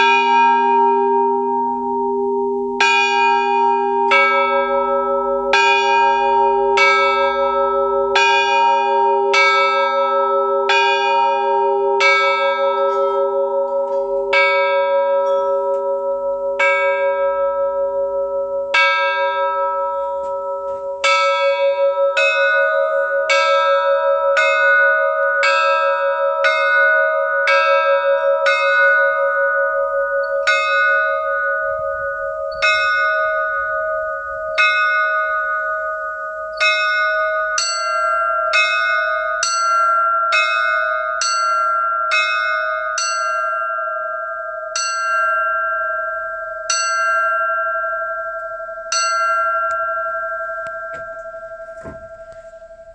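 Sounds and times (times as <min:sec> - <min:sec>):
church bells ringing single strokes: 0:00.0 - 0:52.9.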